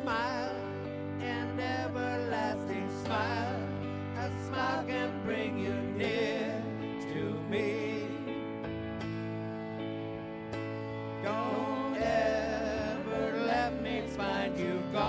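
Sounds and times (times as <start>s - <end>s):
slow ballad music: 0.0s - 15.0s.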